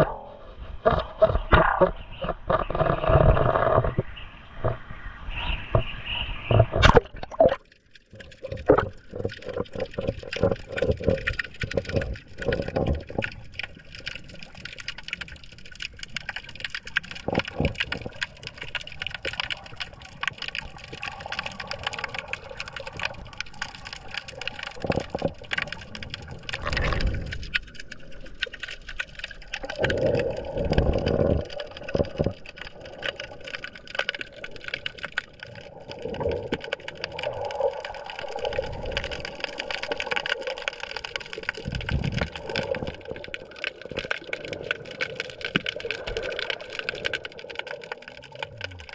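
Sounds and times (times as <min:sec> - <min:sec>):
water sloshing and gurgling: 0:00.0 - 0:48.9.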